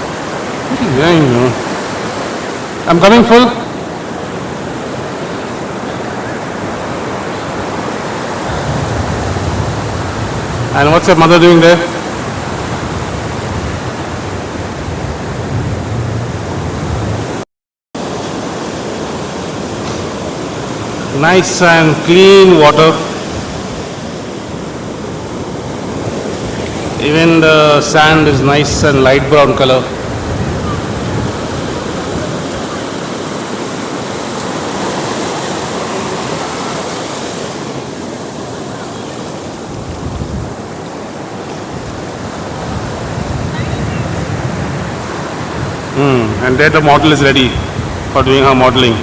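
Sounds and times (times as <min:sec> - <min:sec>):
sea surf washing on beach: 0:00.0 - 0:17.4, 0:18.0 - 0:49.0.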